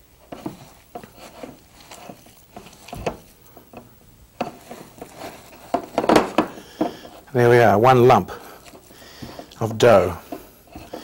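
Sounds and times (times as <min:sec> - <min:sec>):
dough squishing: 0:00.0 - 0:11.0.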